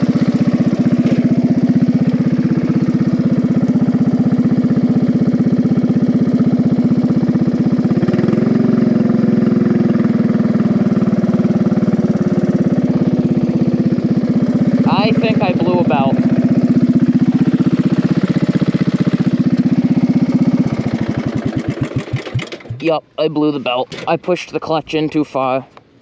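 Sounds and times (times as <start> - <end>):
small mower engine running: 0.0 - 24.7.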